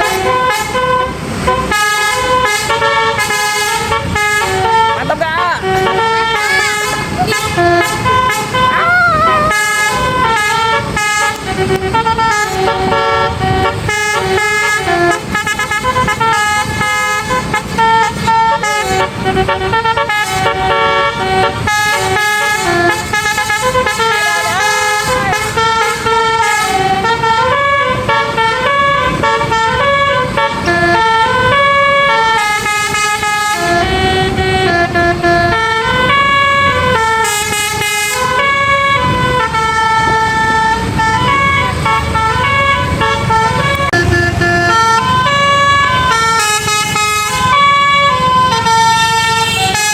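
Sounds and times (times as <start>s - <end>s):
multi-tone air horn tune: 0.0s - 49.9s
vehicle engine and road noise: 0.0s - 49.9s.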